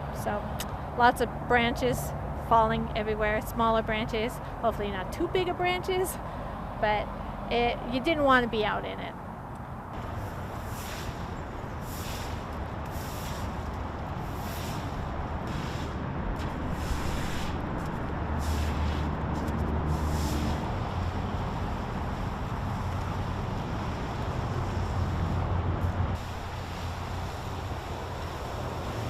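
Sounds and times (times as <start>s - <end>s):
steady traffic noise: 0.0s - 29.0s
vehicle engine rumble: 0.0s - 29.0s.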